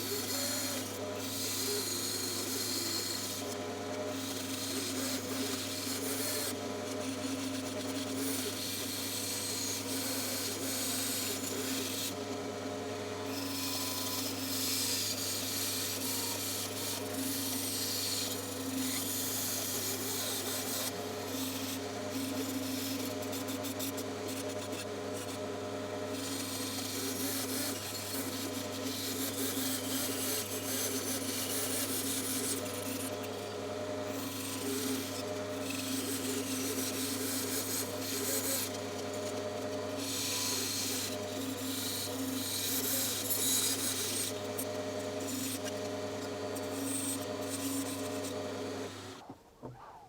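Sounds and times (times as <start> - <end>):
saw blade rasping in wood: 0.0 - 3.5, 4.1 - 12.6, 13.3 - 49.2
bandsaw motor hum: 0.0 - 49.3.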